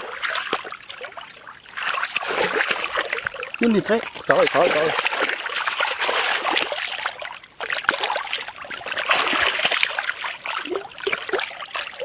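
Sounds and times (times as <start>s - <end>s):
rubber boots squelching through mud: 0.0s - 12.0s.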